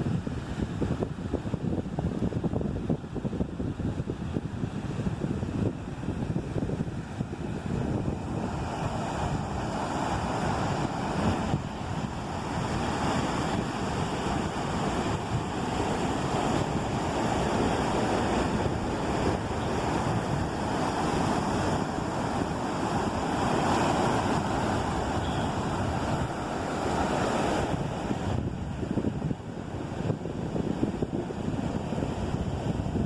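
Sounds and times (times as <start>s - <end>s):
ocean surf washing onto beach: 0.0s - 33.0s
wind buffeting microphone: 0.0s - 33.0s.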